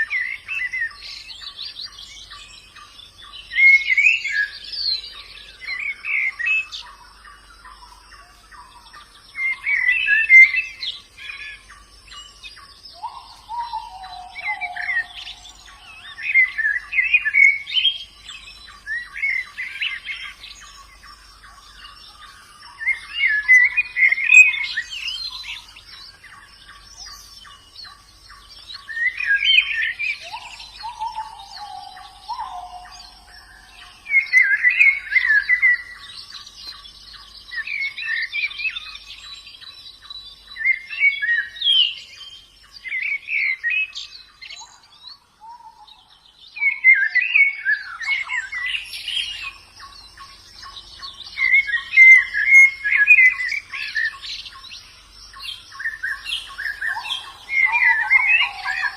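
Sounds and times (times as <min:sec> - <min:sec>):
birds twittering song: 0:00.0 - 0:58.9.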